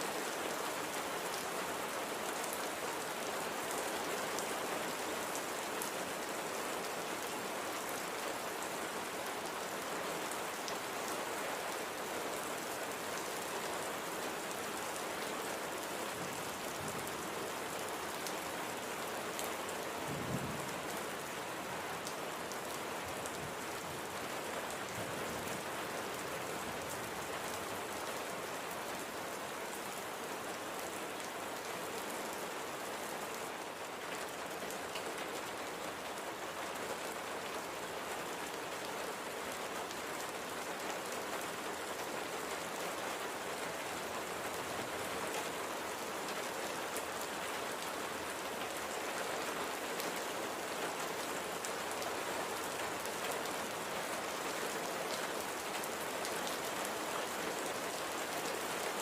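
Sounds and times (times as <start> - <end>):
light rain falling: 0.0 - 59.0.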